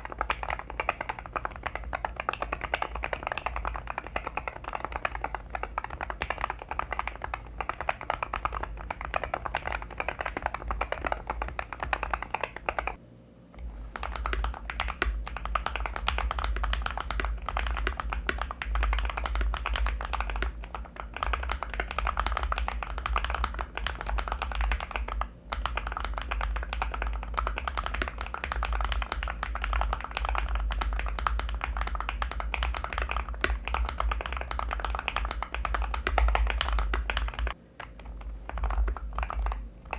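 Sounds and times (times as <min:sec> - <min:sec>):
fast keyboard typing: 0:00.0 - 0:13.0, 0:13.9 - 0:39.9.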